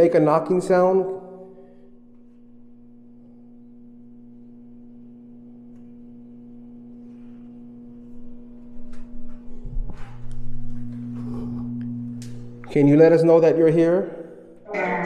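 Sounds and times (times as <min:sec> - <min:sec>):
low droning hum: 0:00.1 - 0:15.0.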